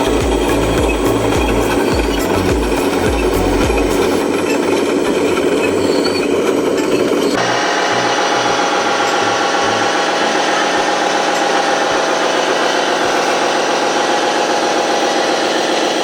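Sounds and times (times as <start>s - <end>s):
motor rattle: 0.0s - 16.0s
small motor whining: 0.0s - 16.0s.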